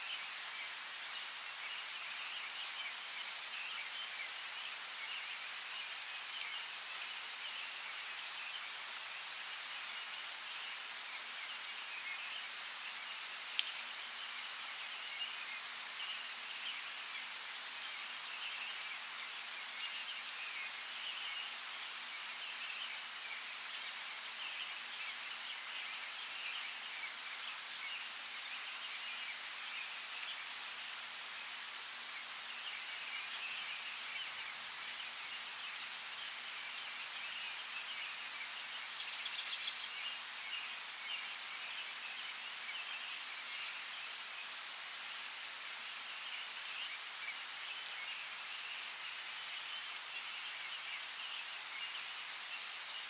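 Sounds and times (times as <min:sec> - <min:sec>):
light rain: 0:00.0 - 0:53.0.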